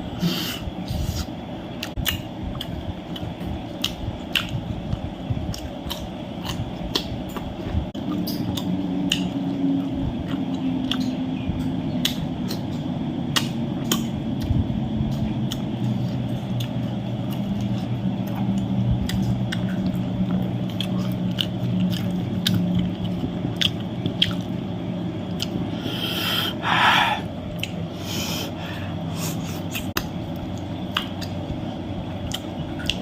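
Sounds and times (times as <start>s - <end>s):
low steady hum: 0.0s - 33.0s
person chewing and crunching: 1.1s - 24.6s, 25.2s - 28.6s, 29.2s - 33.0s.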